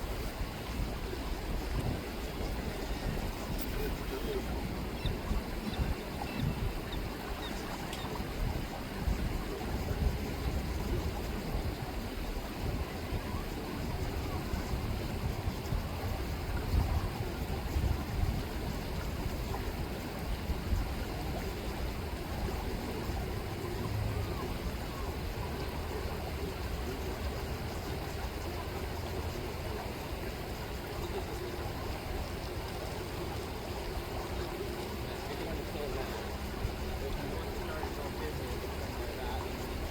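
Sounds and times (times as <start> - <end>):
low uneven rumble: 0.0 - 39.9
river water rippling: 0.0 - 39.9.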